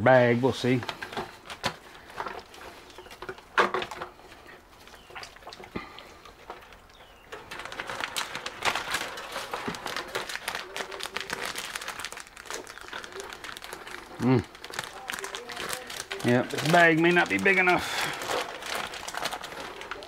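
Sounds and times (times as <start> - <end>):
plastic bag rustling and crinkling: 0.0 - 20.0.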